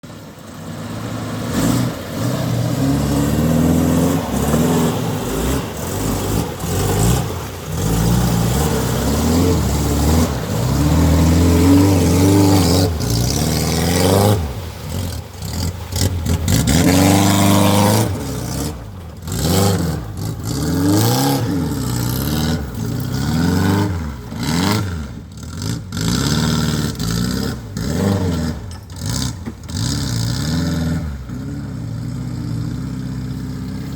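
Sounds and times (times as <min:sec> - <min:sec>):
off-road vehicle engine revving: 0:00.0 - 0:33.9.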